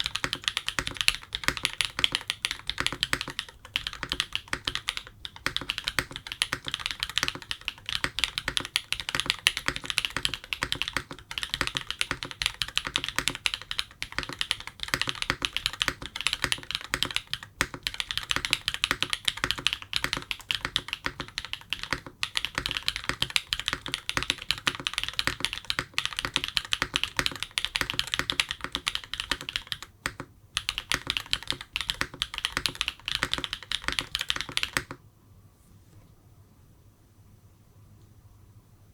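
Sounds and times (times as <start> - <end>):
mechanical keyboard typing: 0.0 - 35.0.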